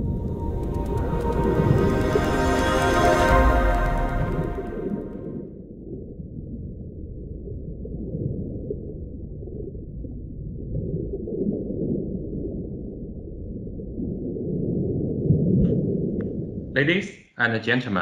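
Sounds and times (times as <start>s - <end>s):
muffled underwater wash: 0.0s - 16.7s.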